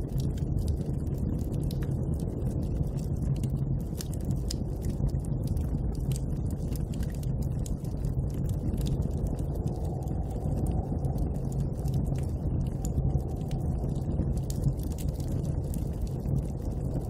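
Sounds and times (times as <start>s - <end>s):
bonfire crackling and popping: 0.0s - 17.0s
low snowstorm wind: 0.0s - 17.0s.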